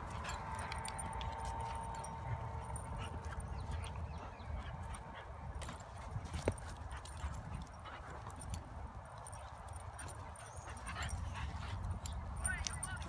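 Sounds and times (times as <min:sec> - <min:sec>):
dogs scuffling on grass: 0:00.0 - 0:13.0.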